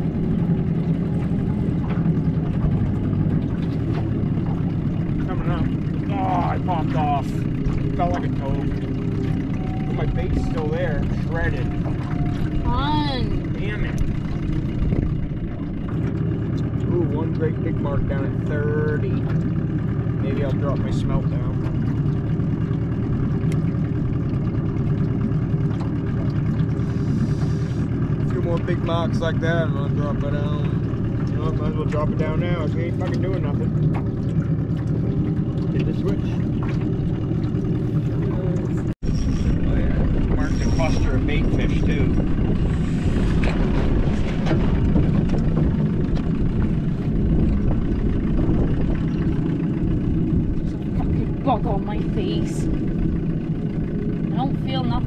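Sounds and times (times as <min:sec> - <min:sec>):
outboard motor droning: 0:00.0 - 0:55.0.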